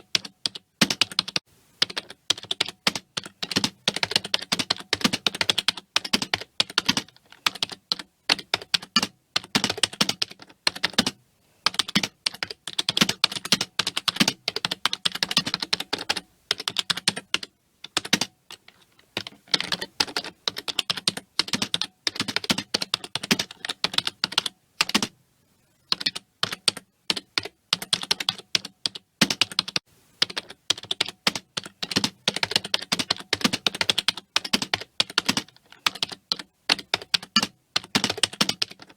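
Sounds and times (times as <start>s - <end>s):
fast typing on keyboard: 0.0s - 25.1s, 25.9s - 38.9s.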